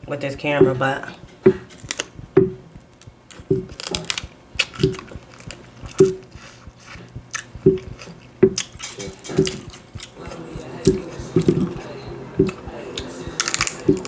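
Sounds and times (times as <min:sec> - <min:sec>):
sharp clicks and crunches: 0:01.2 - 0:14.0
wet chewing and mouth smacks: 0:01.2 - 0:14.0.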